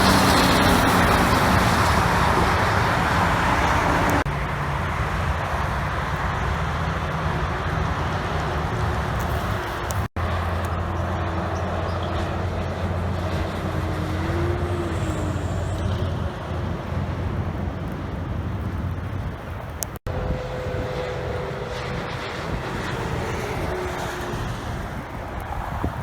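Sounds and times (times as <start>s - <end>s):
heavy trucks passing: 0.0s - 26.0s.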